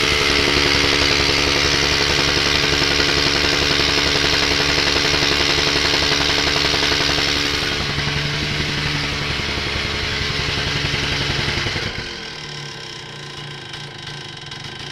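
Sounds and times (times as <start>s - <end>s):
two-stroke engine running: 0.0s - 14.9s.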